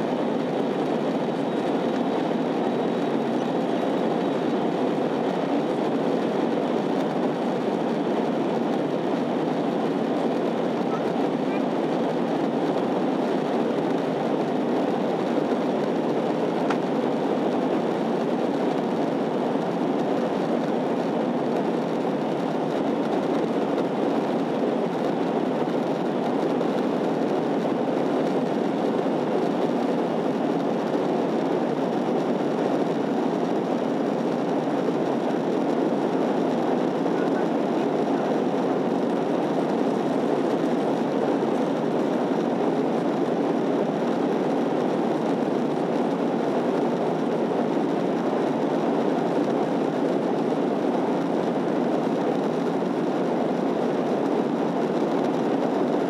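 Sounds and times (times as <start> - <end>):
airliner cabin airflow and engine drone: 0.0 - 56.0.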